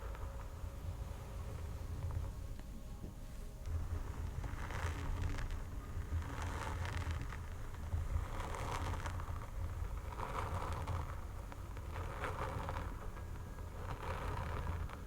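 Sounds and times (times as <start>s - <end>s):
low contact rumble: 0.0s - 15.0s.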